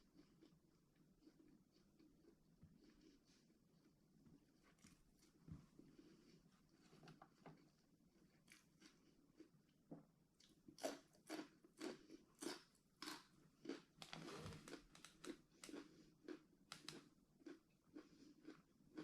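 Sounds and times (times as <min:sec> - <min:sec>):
faint chewing of crunchy food: 0:00.0 - 0:19.0.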